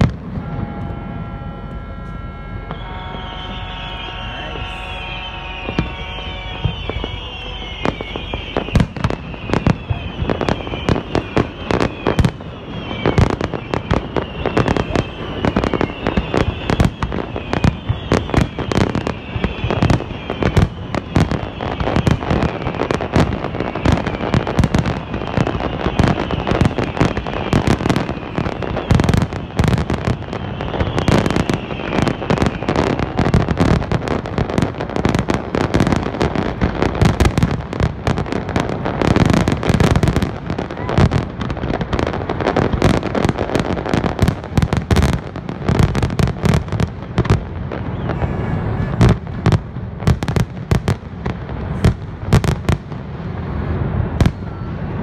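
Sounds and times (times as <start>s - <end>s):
fireworks whistles falling in pitch: 0.0s - 52.8s, 53.4s - 55.0s
fireworks bangs and crackling: 0.0s - 55.0s.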